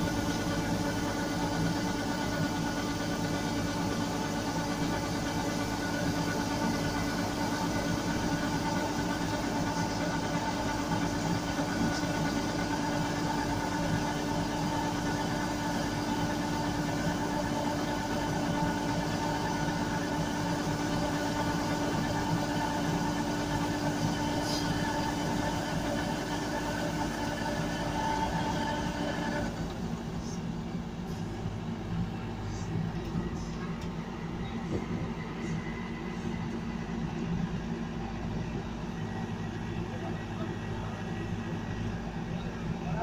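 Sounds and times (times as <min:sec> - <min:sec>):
combine harvester running: 0:00.0 - 0:43.0.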